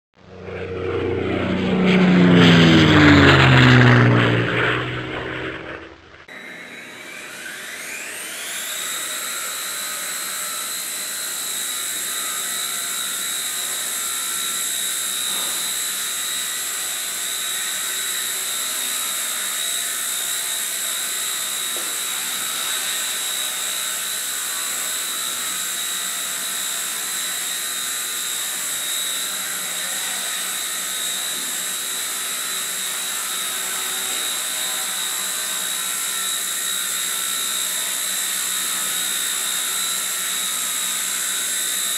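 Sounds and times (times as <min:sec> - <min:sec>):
rc helicopter motor whine: 0:00.2 - 0:41.9.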